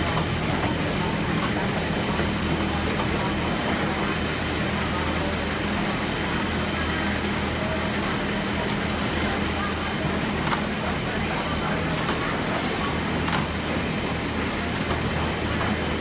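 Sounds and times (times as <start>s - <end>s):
printing machinery droning: 0.0s - 16.0s.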